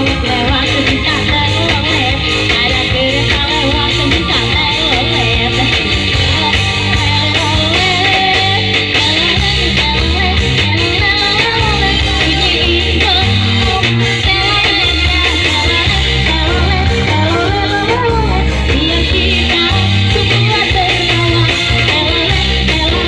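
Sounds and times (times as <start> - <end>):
band playing guitar bass and beat: 0.0 - 23.0
person singing: 0.0 - 23.0.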